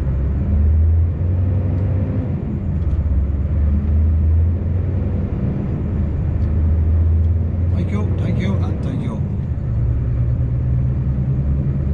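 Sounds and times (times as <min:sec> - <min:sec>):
truck engine humming: 0:00.0 - 0:11.9.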